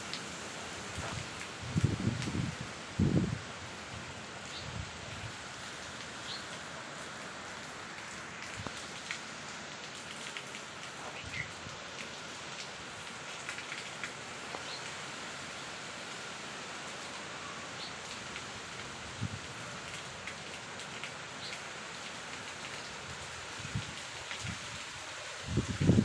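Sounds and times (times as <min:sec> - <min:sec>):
rain drops tapping: 0:00.0 - 0:03.4, 0:05.2 - 0:15.7, 0:17.8 - 0:26.0.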